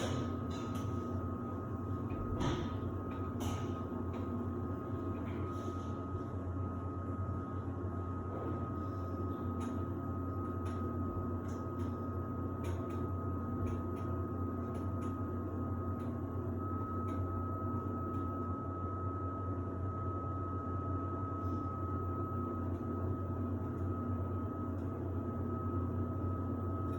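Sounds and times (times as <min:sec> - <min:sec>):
washer-dryer humming: 0:00.0 - 0:26.9.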